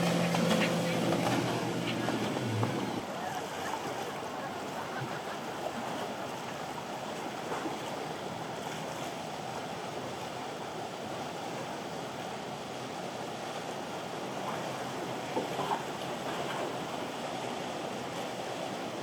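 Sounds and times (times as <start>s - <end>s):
surf washing: 0.0s - 19.0s.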